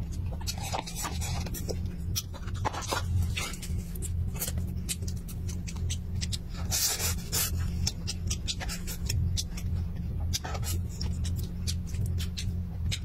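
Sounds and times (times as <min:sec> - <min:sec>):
low hum: 0:00.0 - 0:13.0
chewing and mouth smacks: 0:00.1 - 0:13.0.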